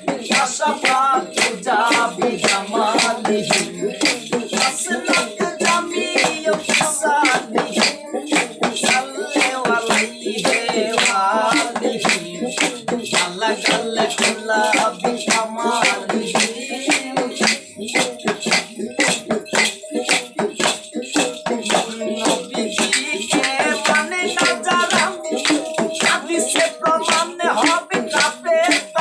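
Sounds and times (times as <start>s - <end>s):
hand drum: 0.0s - 29.0s
hand percussion with jingles: 0.0s - 29.0s
person singing: 0.0s - 29.0s.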